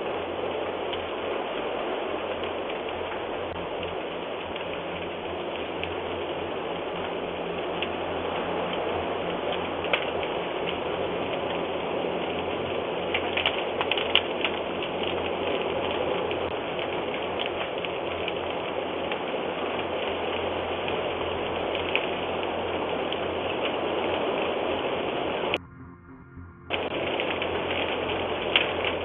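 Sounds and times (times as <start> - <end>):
steady rushing noise: 0.0 - 16.7, 20.4 - 29.0
crackles and clicks: 0.0 - 29.0.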